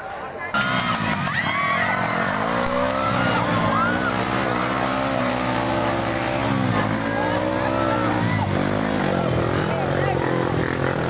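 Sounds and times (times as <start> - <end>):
dirt bike engines revving: 0.5 - 11.0
people shouting: 0.6 - 9.7.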